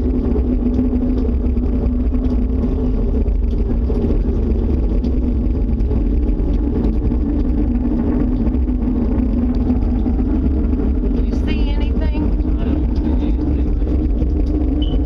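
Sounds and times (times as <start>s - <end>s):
low rumble with droning hum: 0.0s - 15.0s.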